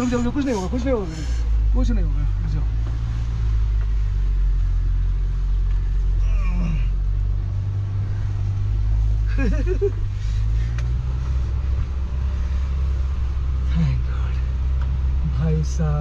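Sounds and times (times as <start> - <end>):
vehicle engine and road drone: 0.0 - 16.0.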